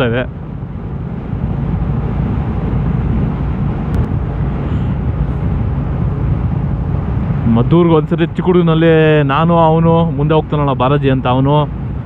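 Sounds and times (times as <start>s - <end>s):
wind rush on microphone: 0.0s - 12.0s.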